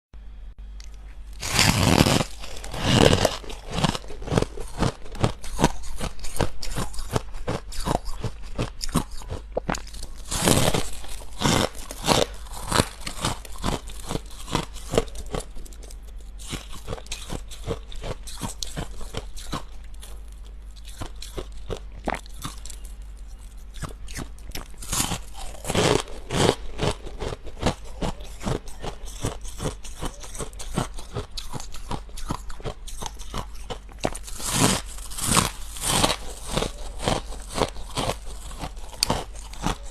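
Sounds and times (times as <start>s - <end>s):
chewing crunchy frost: 0.8s - 39.9s.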